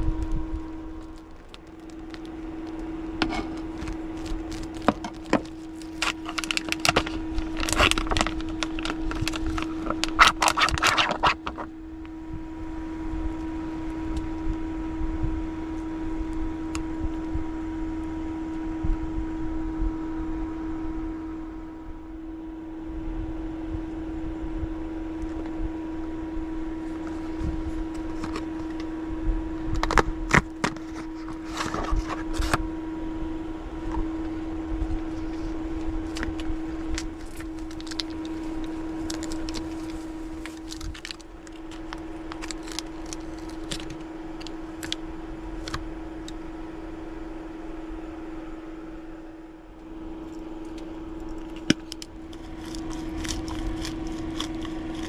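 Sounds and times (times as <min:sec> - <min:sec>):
steady electric hum: 0:00.0 - 0:55.0.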